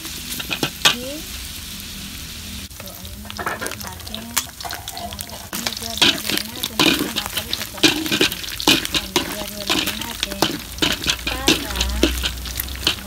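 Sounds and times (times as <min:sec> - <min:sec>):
meat sizzling in oil: 0:00.0 - 0:13.0
metal spoon scraping a pan: 0:00.2 - 0:01.1, 0:03.3 - 0:13.0.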